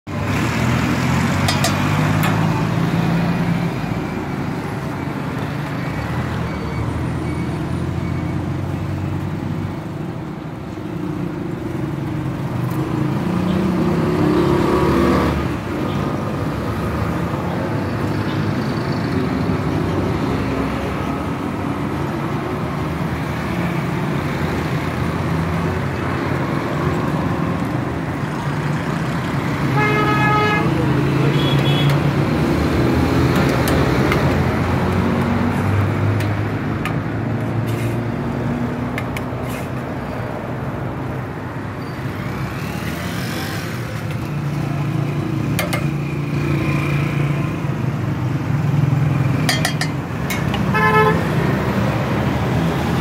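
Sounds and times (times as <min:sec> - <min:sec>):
vehicle engines passing: 0:00.1 - 0:53.0.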